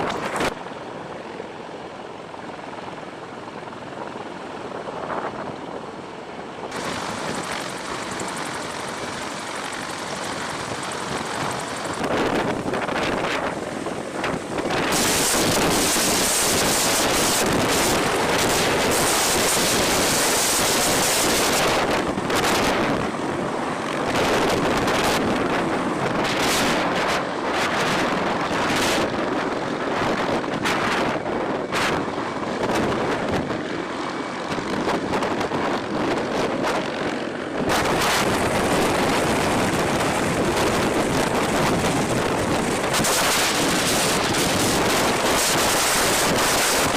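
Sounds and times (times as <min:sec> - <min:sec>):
loud rushing aircraft noise: 0:00.0 - 0:46.9
wind buffeting microphone: 0:02.1 - 0:46.9.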